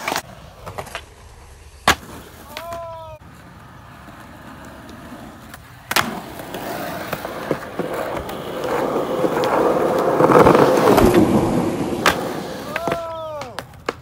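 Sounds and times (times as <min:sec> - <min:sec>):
skateboard clack: 0:00.0 - 0:14.0
skateboard wheels rolling on concrete: 0:00.0 - 0:14.0.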